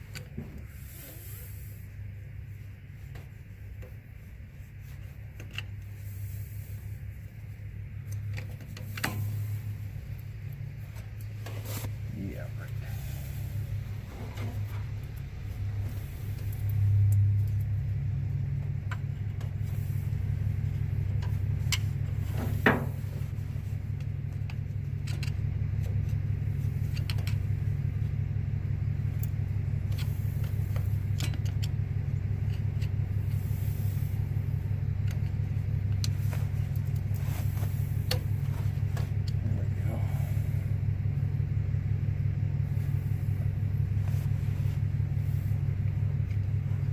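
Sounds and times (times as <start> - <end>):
diesel tractor engine idling: 0.0 - 46.9.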